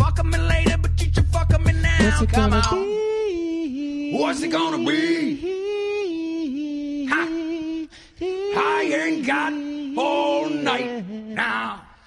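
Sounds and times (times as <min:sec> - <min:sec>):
man singing unaccompanied: 0:00.0 - 0:11.5.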